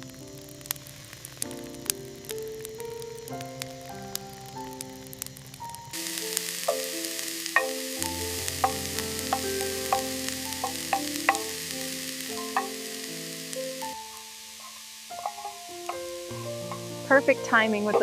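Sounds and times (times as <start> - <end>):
food sizzling in a pan: 0.0 - 18.0
background music: 3.1 - 18.0.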